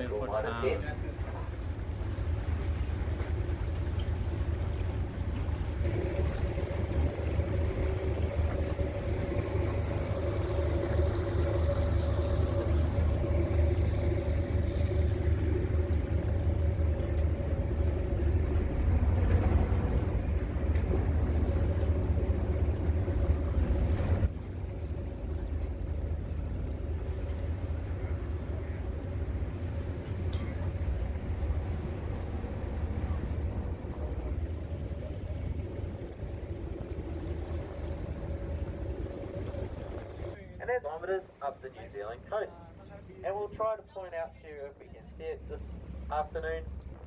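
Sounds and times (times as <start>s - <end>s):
boat engine rumble: 0.0s - 47.0s.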